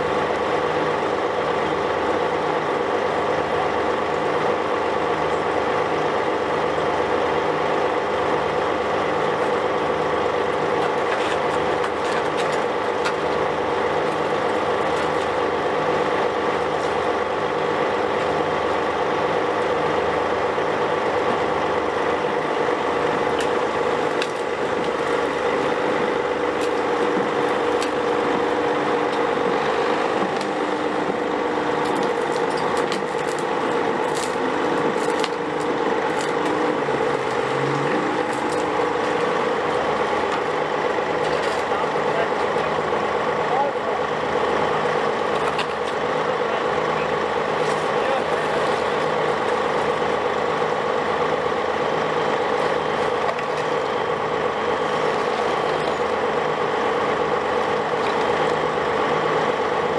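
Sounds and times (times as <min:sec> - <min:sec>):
constant whine: 0:00.0 - 0:59.9
heavy diesel engines running: 0:00.0 - 0:59.9.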